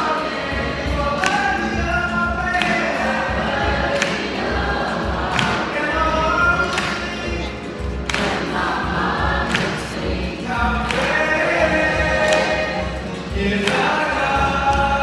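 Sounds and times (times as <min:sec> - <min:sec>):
choir singing long notes: 0:00.0 - 0:15.0.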